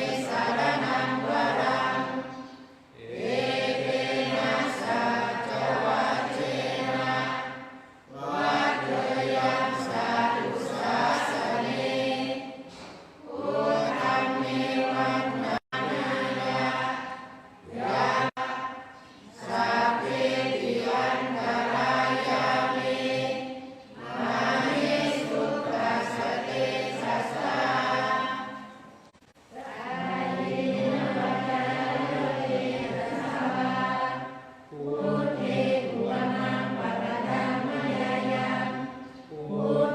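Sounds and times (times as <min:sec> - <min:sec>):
group of voices chanting: 0:00.0 - 0:39.9.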